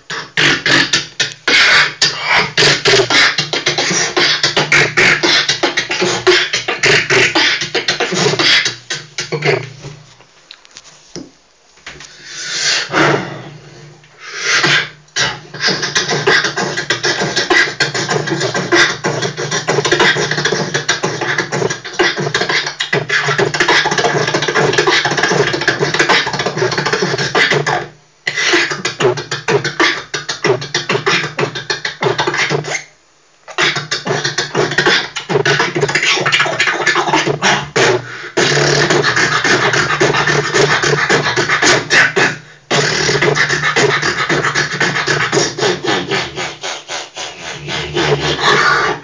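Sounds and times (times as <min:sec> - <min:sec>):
beatboxing through loudspeakers: 0:00.0 - 0:10.2, 0:11.2 - 0:49.0.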